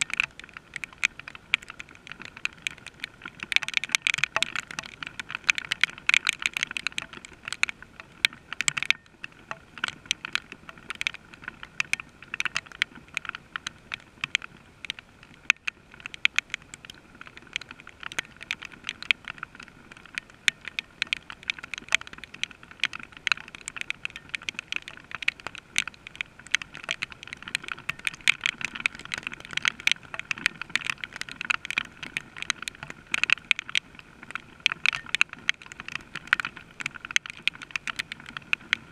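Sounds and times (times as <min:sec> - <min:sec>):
rain ticking on hard surface: 0:00.0 - 0:38.9.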